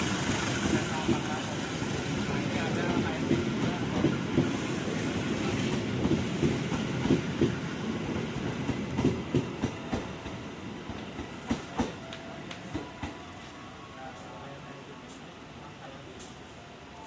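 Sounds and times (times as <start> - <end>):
train rumble: 0.0 - 16.8.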